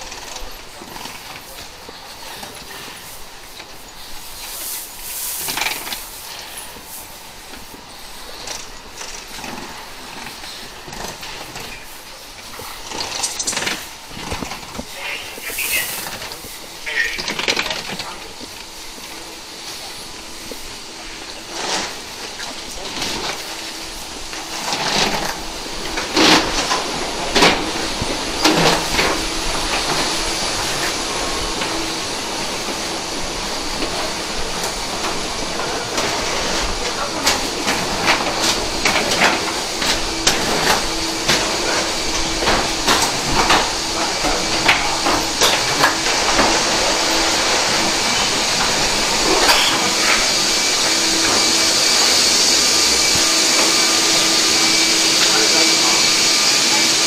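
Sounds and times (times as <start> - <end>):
rolling suitcases: 0.0 - 4.2, 5.4 - 19.4, 20.2 - 57.0
rushing air hiss: 0.0 - 57.0.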